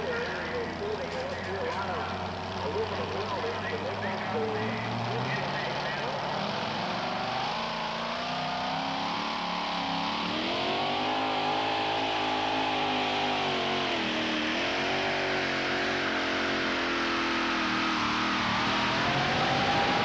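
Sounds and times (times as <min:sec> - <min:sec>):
tractor engine at full throttle: 0:00.0 - 0:20.0.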